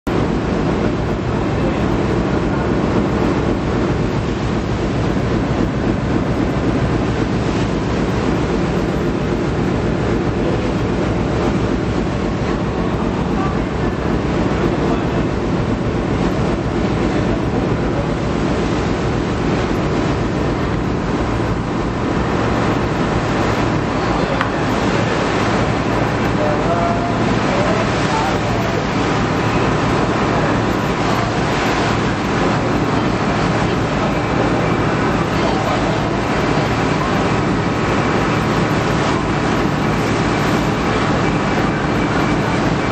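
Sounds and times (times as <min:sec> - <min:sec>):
ferry engine rumbling: 0:00.0 - 0:42.9.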